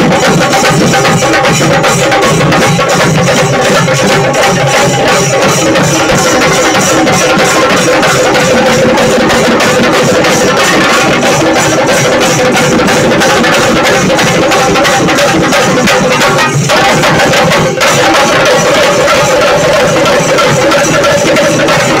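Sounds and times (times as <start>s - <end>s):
drums played with sticks: 0.0s - 22.0s.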